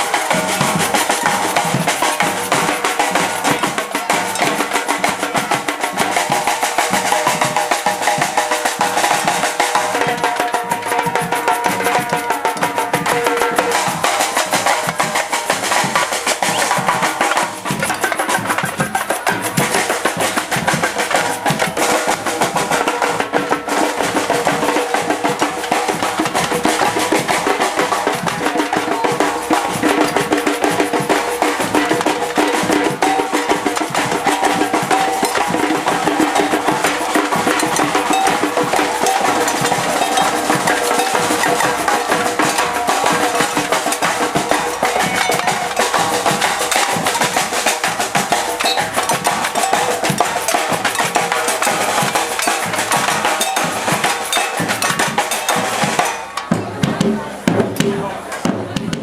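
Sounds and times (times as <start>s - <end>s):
percussion group drumming: 0.0s - 59.0s.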